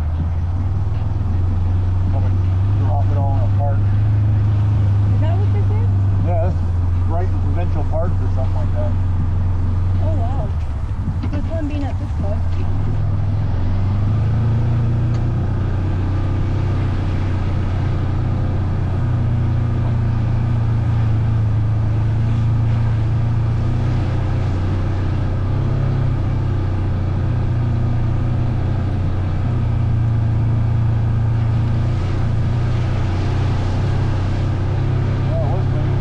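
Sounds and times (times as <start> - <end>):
vehicle engine droning: 0.0 - 36.0.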